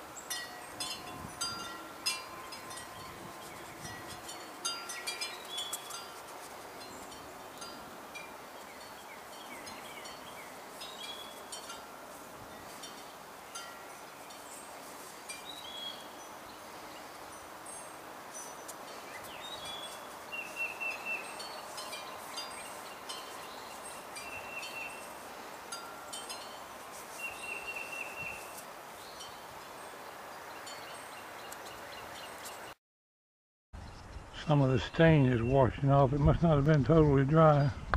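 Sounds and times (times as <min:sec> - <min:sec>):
steady background hiss: 0:00.0 - 0:32.7
bird chirps and trills: 0:00.1 - 0:11.8, 0:12.5 - 0:25.2, 0:26.1 - 0:32.7.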